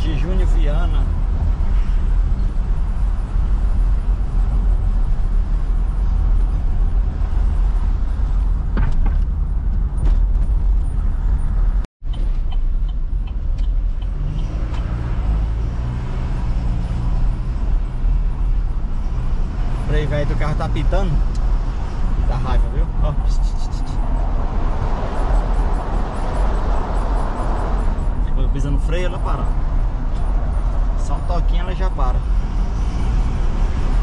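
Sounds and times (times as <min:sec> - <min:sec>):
car driving slowly: 0:00.0 - 0:34.0.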